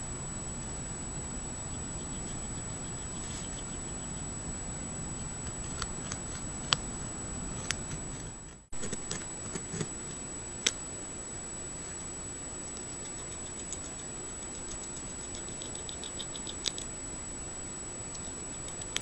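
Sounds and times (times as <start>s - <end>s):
faint high whine: 0.0s - 19.0s
microphone hiss: 0.0s - 19.0s.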